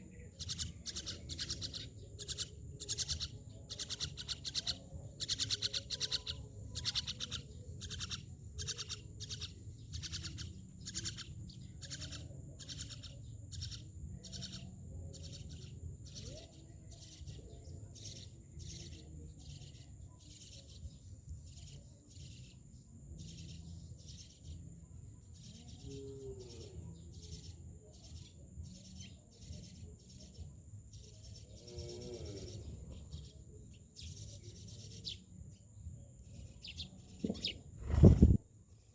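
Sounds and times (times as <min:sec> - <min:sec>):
myna birds chirping: 0:00.0 - 0:38.9.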